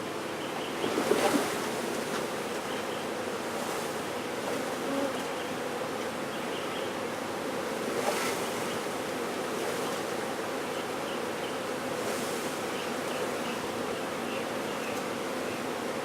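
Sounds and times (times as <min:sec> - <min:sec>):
bee swarm buzzing: 0:00.9 - 0:16.0.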